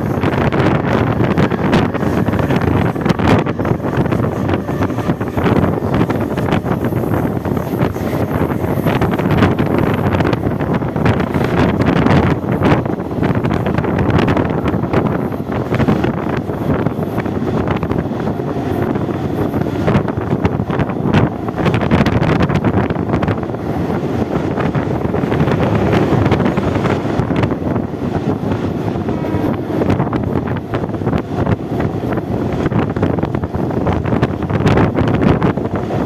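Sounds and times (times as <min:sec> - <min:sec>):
train rumbling: 0:00.0 - 0:36.0
wind buffeting microphone: 0:00.0 - 0:36.0.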